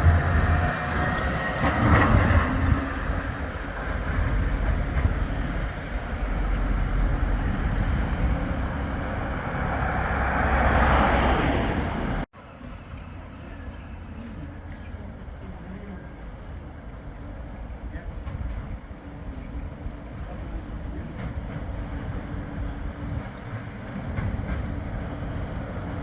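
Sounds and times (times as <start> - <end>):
street background: 0.0 - 26.0
tram rumbling along rails: 0.0 - 26.0.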